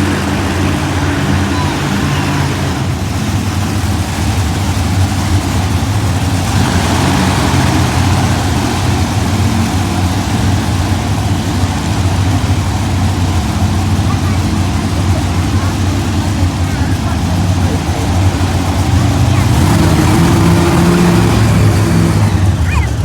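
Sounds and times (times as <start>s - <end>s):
monster truck engine running: 0.0s - 23.0s.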